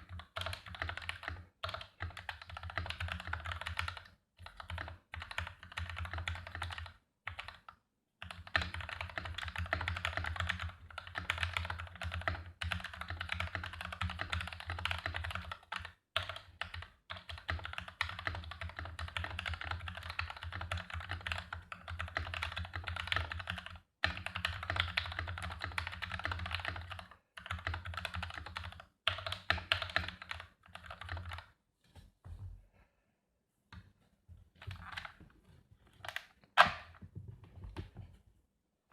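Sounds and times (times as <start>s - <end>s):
typing on mechanical keyboard: 0.0s - 31.6s, 34.6s - 35.2s.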